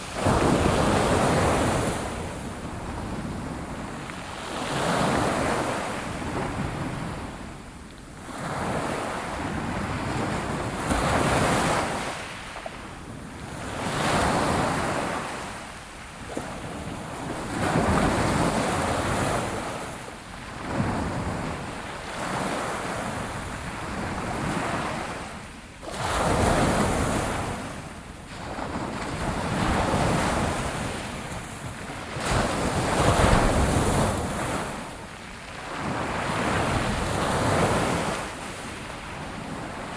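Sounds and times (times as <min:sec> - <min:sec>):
wind on microphone: 0:00.0 - 0:15.4, 0:16.2 - 0:39.9
ocean waves breaking on shore: 0:00.0 - 0:39.9.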